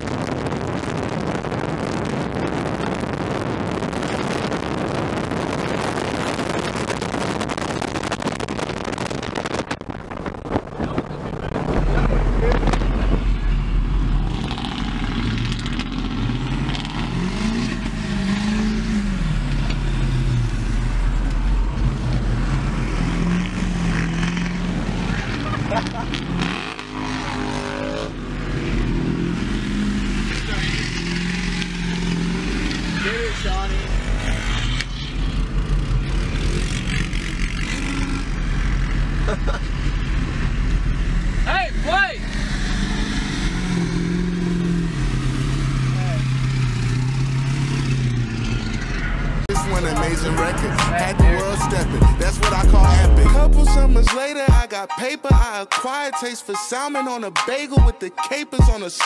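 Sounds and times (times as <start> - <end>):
diesel truck engine revving: 0.0 - 54.1
road rumble: 0.0 - 55.3.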